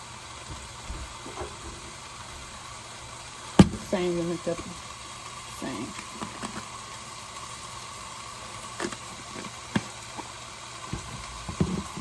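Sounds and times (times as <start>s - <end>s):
kitchen background hiss: 0.0s - 12.0s.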